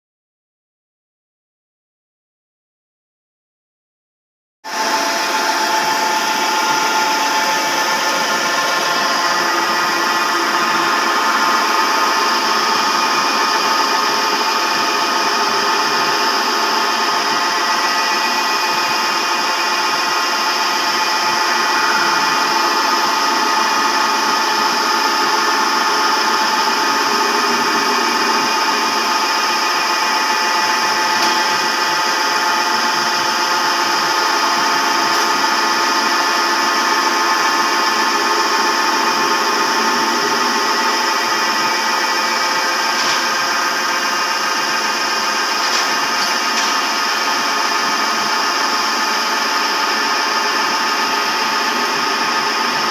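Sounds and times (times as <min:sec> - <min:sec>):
metal lathe cutting: 0:04.7 - 0:52.9.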